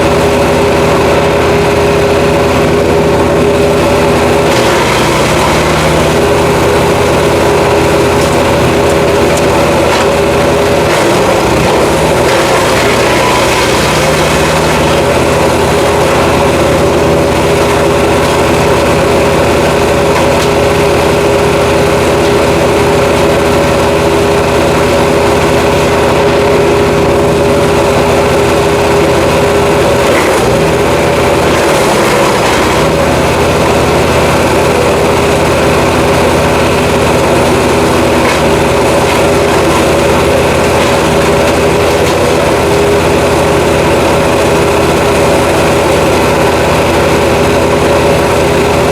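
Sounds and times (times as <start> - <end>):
wood chipper engine running: 0.0 - 48.9.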